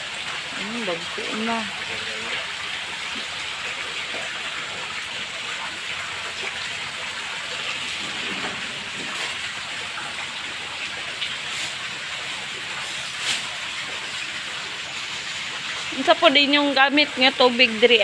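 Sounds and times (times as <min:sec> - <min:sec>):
water splashing into a tank: 0:00.0 - 0:18.0.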